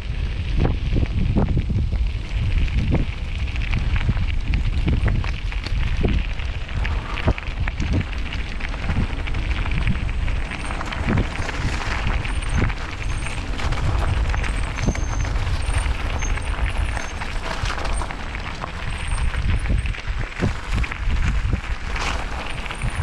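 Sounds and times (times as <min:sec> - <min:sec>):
bike tyres knocking and rattling: 0:00.0 - 0:23.0
wind rumbling on microphone: 0:00.0 - 0:23.0.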